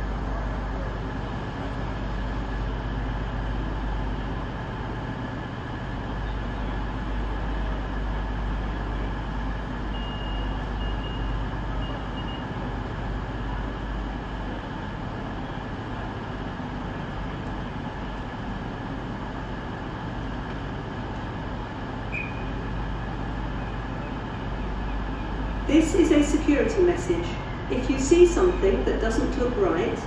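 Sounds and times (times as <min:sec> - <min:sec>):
diesel train engines droning: 0:00.0 - 0:30.0.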